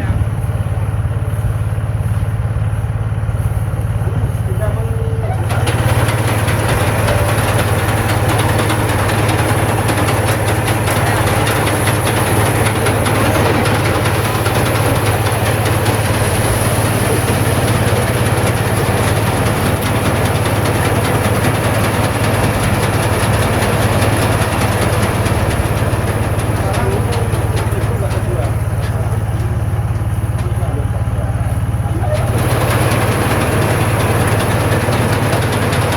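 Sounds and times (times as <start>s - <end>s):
combine harvester engine drone: 0.0s - 35.9s.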